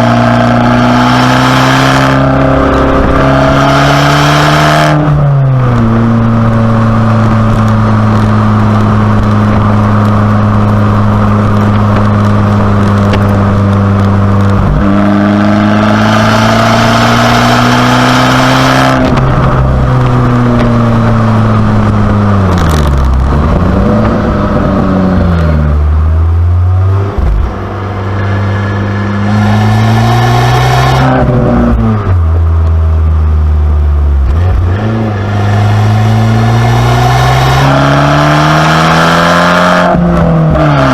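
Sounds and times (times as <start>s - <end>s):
car engine driving: 0.0s - 40.9s.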